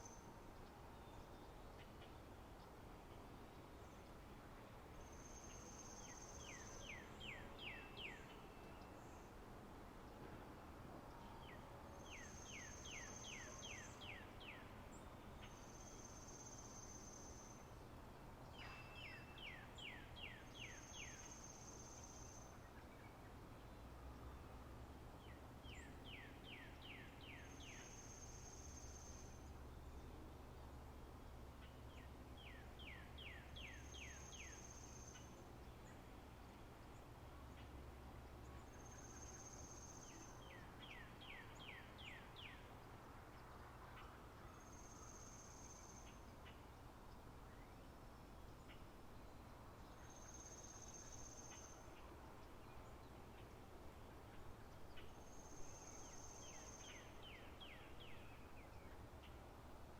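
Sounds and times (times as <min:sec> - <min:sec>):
songbirds singing: 0:00.0 - 0:09.4, 0:11.1 - 0:59.9
faint background hiss: 0:00.0 - 0:59.9.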